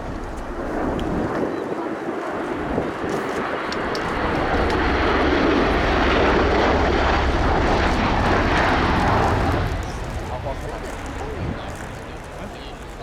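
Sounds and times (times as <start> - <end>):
tilt-rotor aircraft flying past: 0.0 - 13.0
deep rumble: 2.5 - 13.0.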